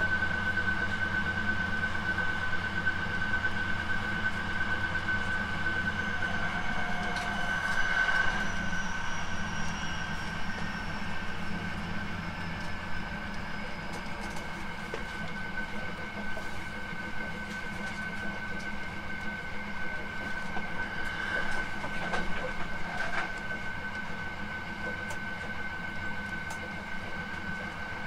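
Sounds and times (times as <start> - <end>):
train high whine: 0.0 - 28.0
wheels rumbling on rail: 0.0 - 28.0.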